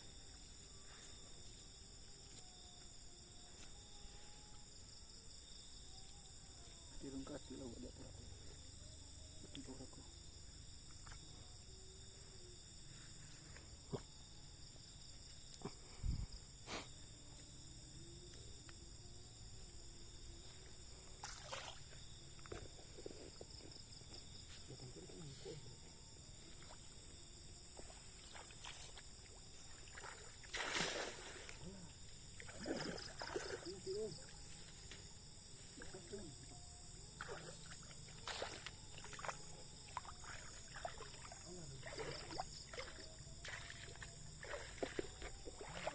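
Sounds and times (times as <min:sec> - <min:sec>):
night insects chorus: 0:00.0 - 0:45.9.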